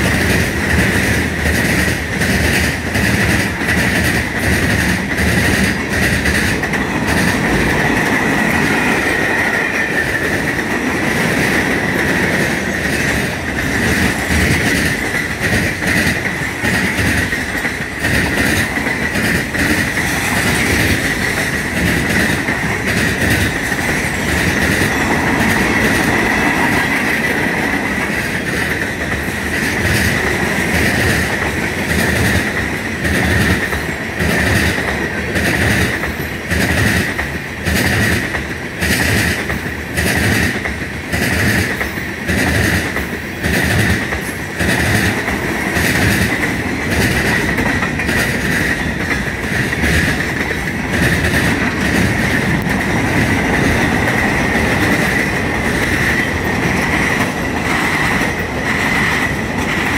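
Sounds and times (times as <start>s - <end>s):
train wheels clacking over rail joints: 0.0s - 59.9s.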